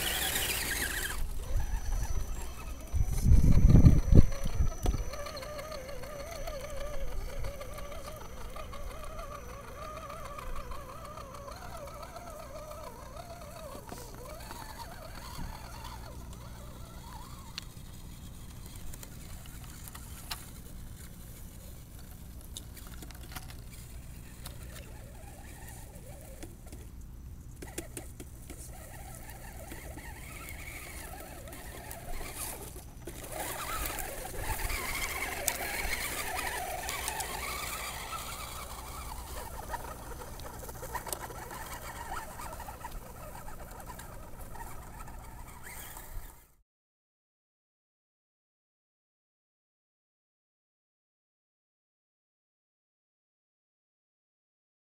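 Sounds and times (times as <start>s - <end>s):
electric motor and gears whining: 0.0s - 46.6s.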